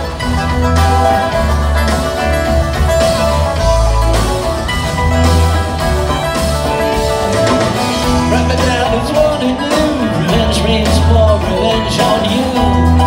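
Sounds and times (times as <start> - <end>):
banjo: 0.0 - 13.0
live bluegrass band: 0.0 - 13.0.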